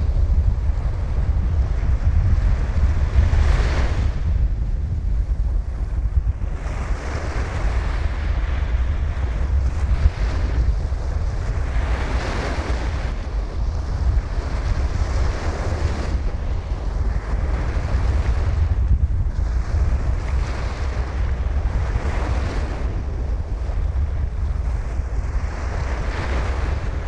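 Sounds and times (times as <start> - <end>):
waves washing in and out: 0.0 - 27.0
wind rumble on microphone: 0.0 - 27.0.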